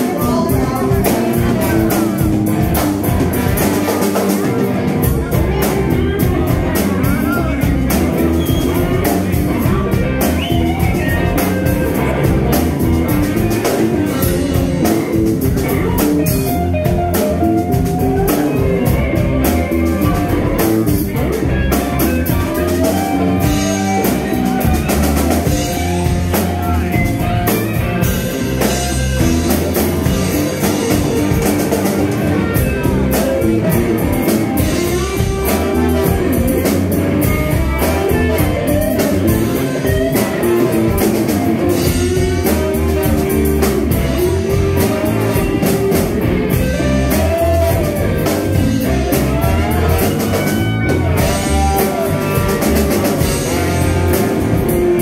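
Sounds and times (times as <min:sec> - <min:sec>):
live blues band: 0:00.0 - 0:55.0.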